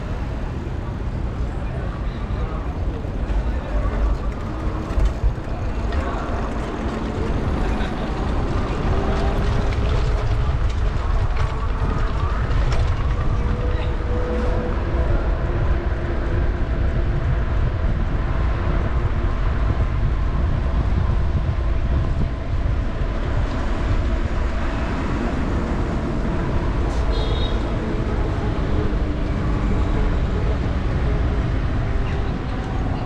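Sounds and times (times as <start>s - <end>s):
city street noise: 0.0s - 33.0s
faint voices: 0.0s - 33.0s
wind rumble on microphone: 0.0s - 33.0s.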